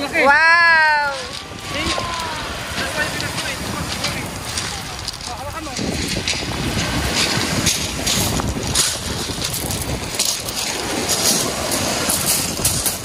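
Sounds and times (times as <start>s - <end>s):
surf washing: 0.0s - 13.0s
wind on microphone: 0.0s - 13.0s
footsteps crunching on pebbles: 1.0s - 13.0s.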